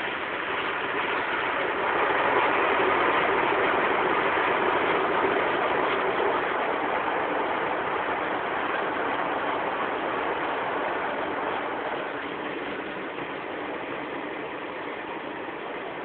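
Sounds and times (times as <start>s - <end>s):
car wash water spraying: 0.0s - 16.0s.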